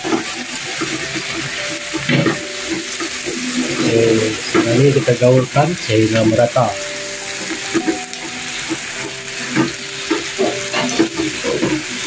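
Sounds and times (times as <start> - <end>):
food sizzling in a wok: 0.0 - 12.0
spatula scraping wok: 0.0 - 12.0.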